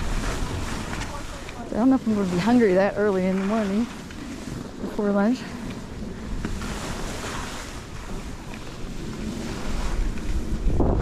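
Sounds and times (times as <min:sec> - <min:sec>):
skis sliding over snow: 0:00.0 - 0:11.0
wind on microphone: 0:00.0 - 0:11.0.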